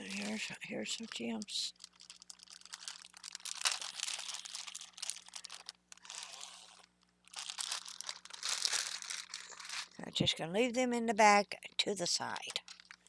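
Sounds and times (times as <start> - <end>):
plastic bag crinkling and rustling: 0.0 - 10.7, 12.2 - 13.0.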